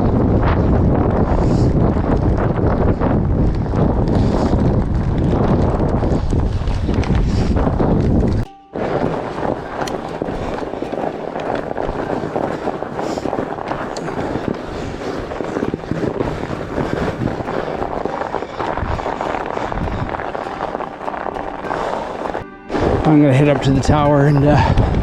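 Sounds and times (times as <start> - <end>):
bike rattling: 0.0 - 25.0
fat tyres crackling on trail: 0.0 - 25.0.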